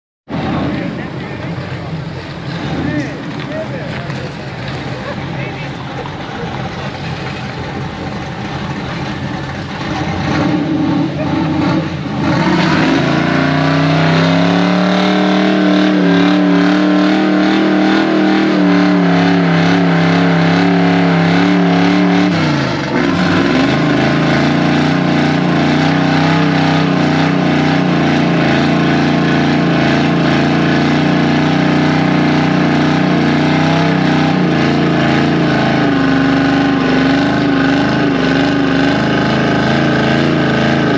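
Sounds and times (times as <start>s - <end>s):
truck engine revving: 0.3s - 40.9s.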